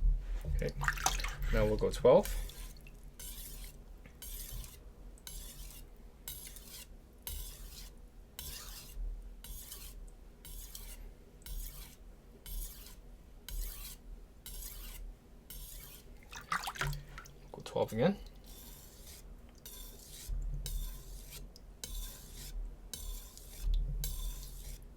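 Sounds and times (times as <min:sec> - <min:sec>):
knife rasping on whetstone: 0:02.2 - 0:16.1, 0:18.4 - 0:24.9.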